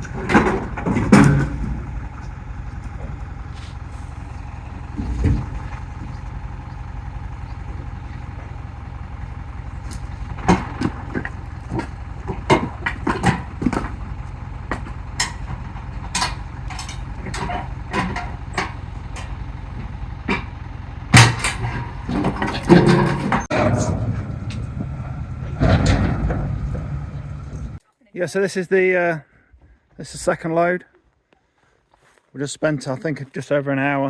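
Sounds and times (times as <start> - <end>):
firewood logs clattering: 0.0 - 27.8
vehicle engine idling: 0.0 - 27.8.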